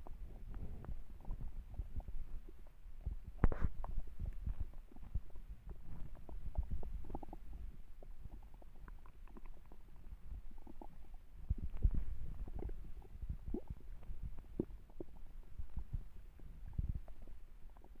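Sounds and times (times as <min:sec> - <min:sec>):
stomach growling: 0:00.0 - 0:18.0.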